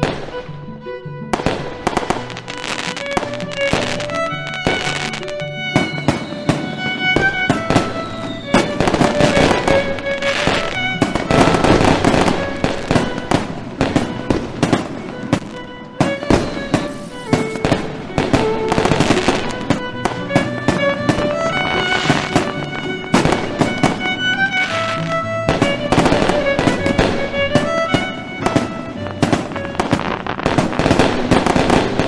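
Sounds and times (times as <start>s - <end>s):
fireworks banging and crackling: 0.0s - 0.5s, 1.3s - 32.0s
melodic music: 0.0s - 32.0s.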